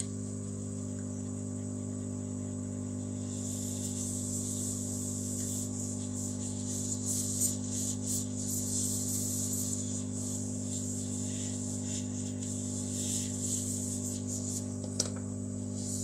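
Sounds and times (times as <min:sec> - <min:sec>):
hot air blower hum and hiss: 0:00.0 - 0:16.0.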